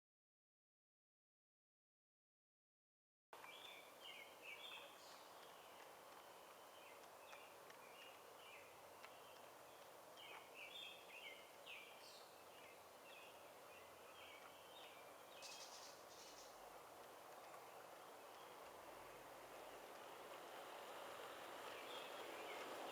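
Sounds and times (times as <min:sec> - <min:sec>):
small birds chirping: 0:03.4 - 0:22.9
steady background hiss: 0:03.4 - 0:22.9.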